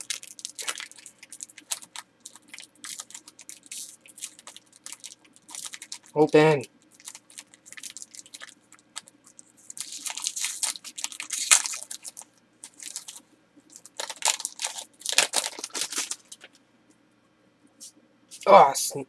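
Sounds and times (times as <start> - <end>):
foil wrapper tearing and crinkling: 0.0 - 16.5.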